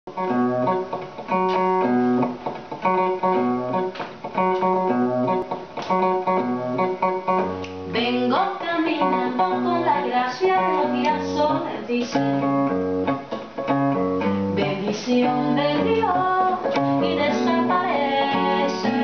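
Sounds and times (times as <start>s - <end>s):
acoustic guitar: 0.1s - 19.0s
electric guitar chords: 0.1s - 19.0s.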